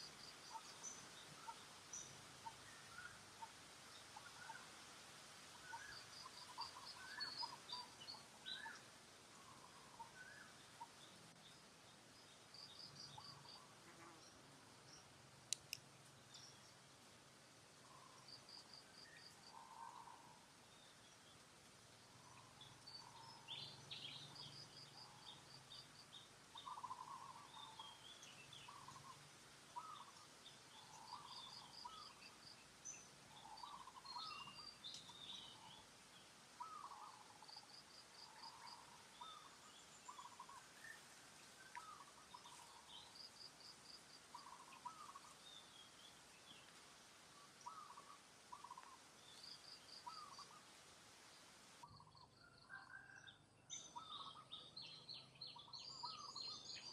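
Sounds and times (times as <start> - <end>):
faint steady hiss: 0.0 - 52.6, 53.3 - 56.9.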